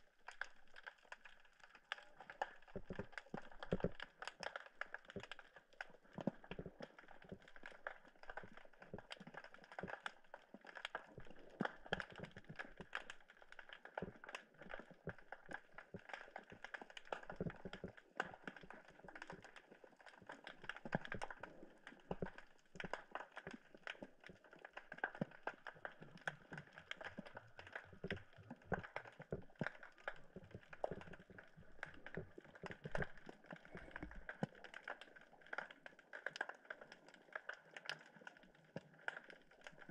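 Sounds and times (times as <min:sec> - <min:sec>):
underwater crackling clicks: 0:00.0 - 0:39.9.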